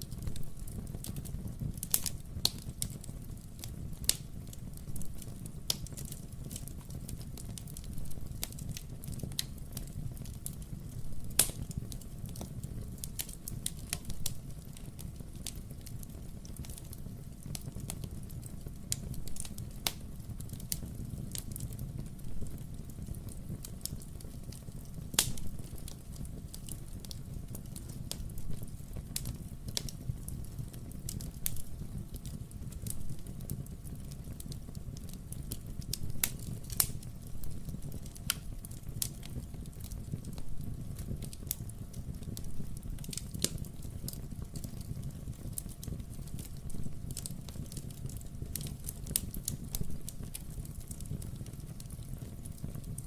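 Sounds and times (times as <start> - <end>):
logs crackling and popping: 0.0 - 53.0
wood fire rumbling: 0.0 - 53.0.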